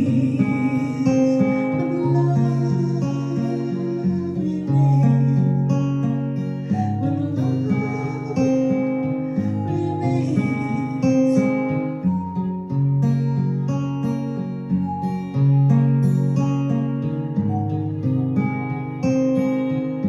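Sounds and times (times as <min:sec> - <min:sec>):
acoustic guitar playing chords: 0:00.0 - 0:20.0.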